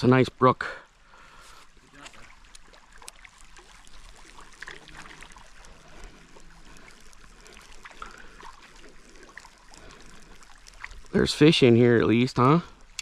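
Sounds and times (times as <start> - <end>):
river water trickling over rocks: 0.0 - 13.0
small water splashes: 0.9 - 13.0.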